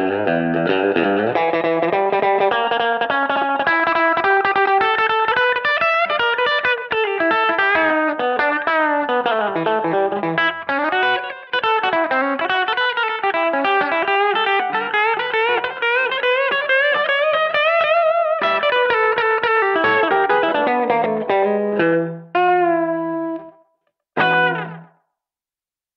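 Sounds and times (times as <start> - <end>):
electric guitar lead lines: 0.0 - 23.6, 24.2 - 25.0.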